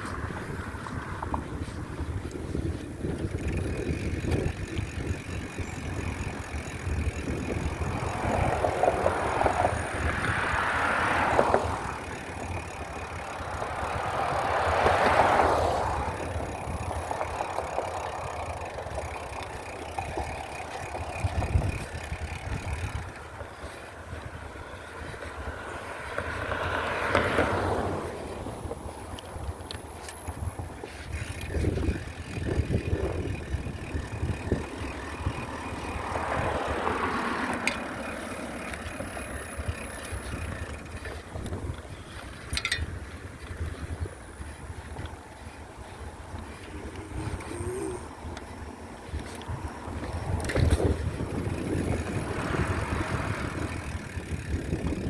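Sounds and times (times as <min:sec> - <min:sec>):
bicycle riding rumble: 0:00.0 - 0:55.0.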